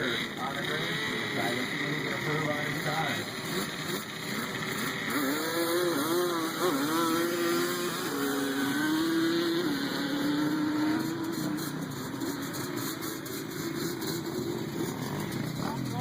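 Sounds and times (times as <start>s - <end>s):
atv engine accelerating: 0.0s - 16.0s.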